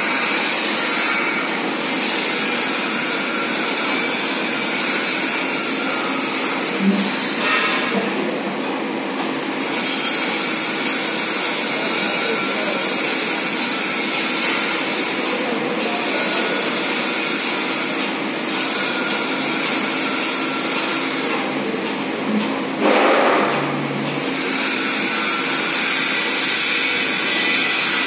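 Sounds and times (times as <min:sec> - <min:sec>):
conveyor motor and pump hum: 0:00.0 - 0:28.0.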